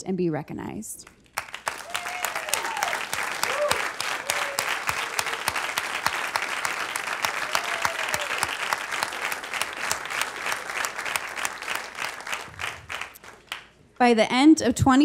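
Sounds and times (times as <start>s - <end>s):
large audience applauding: 1.3s - 13.7s.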